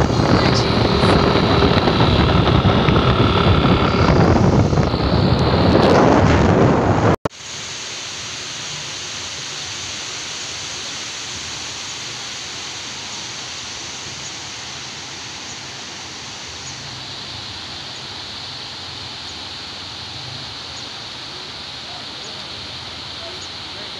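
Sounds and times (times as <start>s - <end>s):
water rushing: 0.0s - 23.9s.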